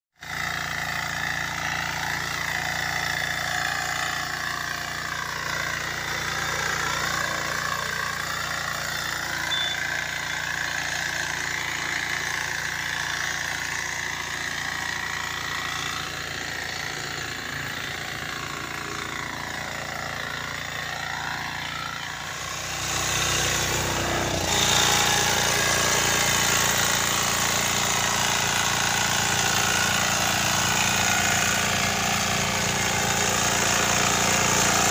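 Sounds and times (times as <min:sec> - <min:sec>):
diesel engine running under load: 0:00.2 - 0:34.9
tines churning soil: 0:00.2 - 0:34.9.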